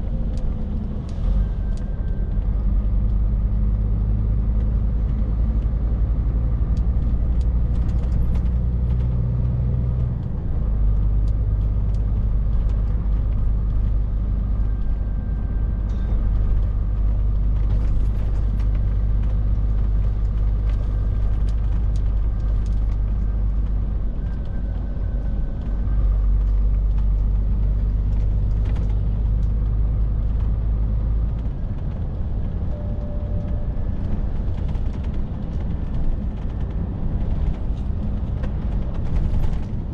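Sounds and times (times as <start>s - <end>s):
lorry diesel engine drone: 0.0s - 39.9s
road noise: 0.0s - 39.9s.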